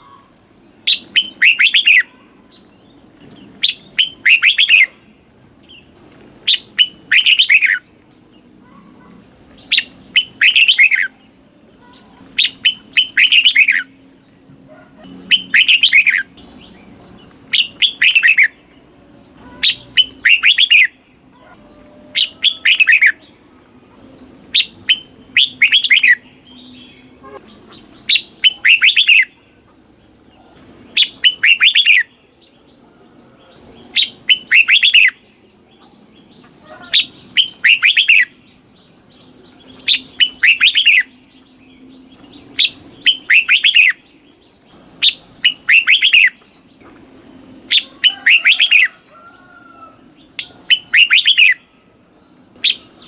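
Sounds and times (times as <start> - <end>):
bird singing whistled notes: 0.0 - 14.4, 15.1 - 23.4, 24.0 - 29.7, 30.6 - 32.7, 33.6 - 35.6, 36.8 - 46.8, 47.4 - 53.0.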